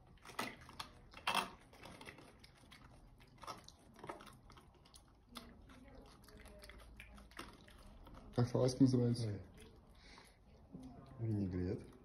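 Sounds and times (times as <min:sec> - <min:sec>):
monkey chewing: 0:00.0 - 0:12.0.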